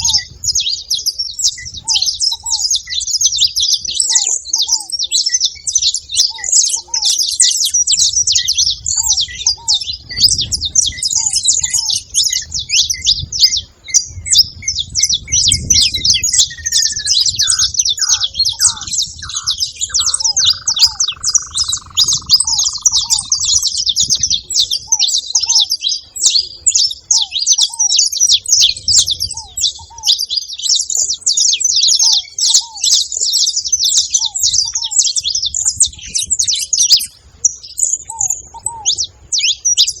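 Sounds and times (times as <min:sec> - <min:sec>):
finches chirping and chattering: 0:00.0 - 0:40.0.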